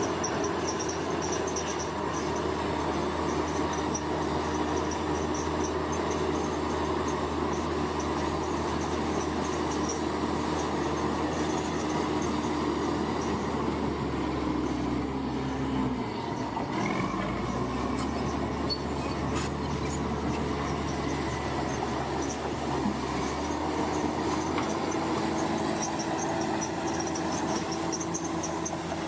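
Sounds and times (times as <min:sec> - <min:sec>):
bulldozer diesel engine running: 0:00.0 - 0:29.0
machinery clanks and squeals: 0:00.0 - 0:29.0.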